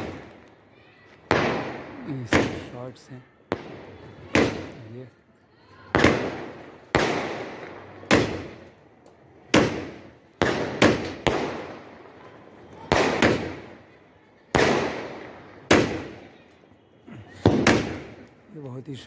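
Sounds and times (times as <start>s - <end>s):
fireworks bangs: 0.0s - 5.1s, 5.8s - 19.0s.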